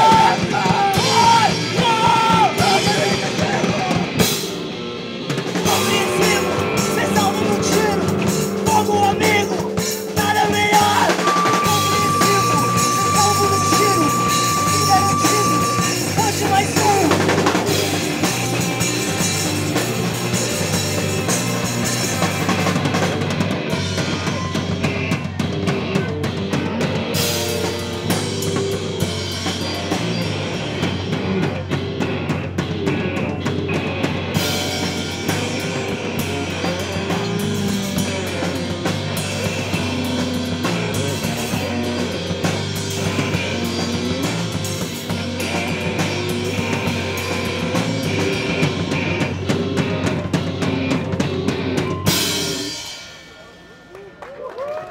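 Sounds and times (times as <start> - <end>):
punk band playing live: 0.0 - 54.9.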